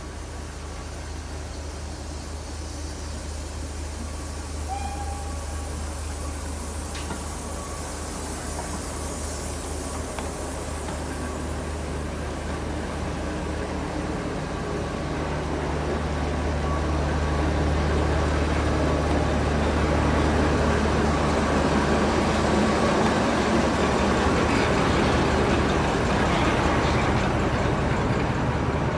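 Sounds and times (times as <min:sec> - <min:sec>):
passing train rushing: 0:00.0 - 0:28.9.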